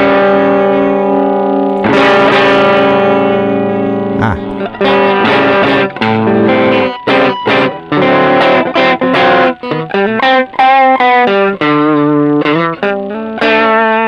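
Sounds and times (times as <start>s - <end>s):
distorted electric guitar: 0.0s - 14.0s.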